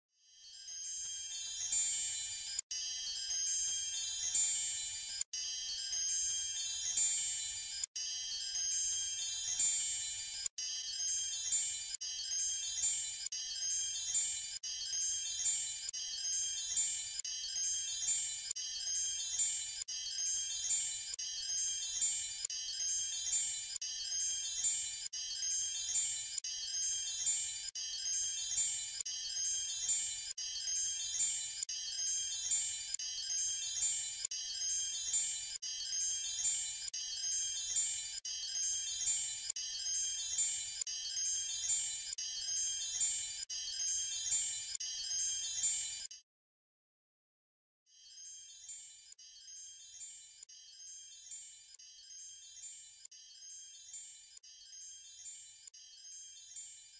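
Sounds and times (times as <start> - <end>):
tinkling chime music: 0.2 - 46.2, 47.9 - 56.9.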